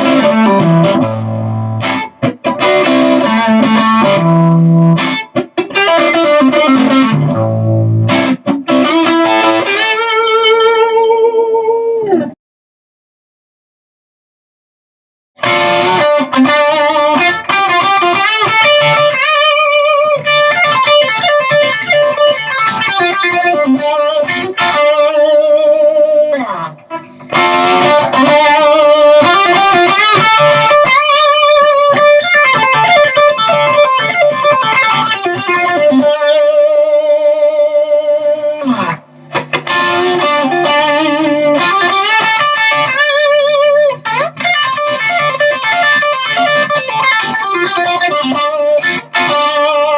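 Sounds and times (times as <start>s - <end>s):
overdriven electric guitar riff: 0.0s - 12.4s, 15.4s - 49.9s.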